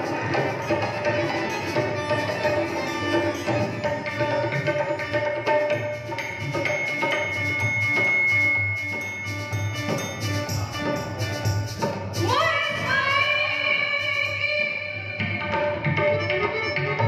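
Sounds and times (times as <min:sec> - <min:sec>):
hand drums playing rhythm: 0:00.0 - 0:13.9, 0:15.1 - 0:17.0.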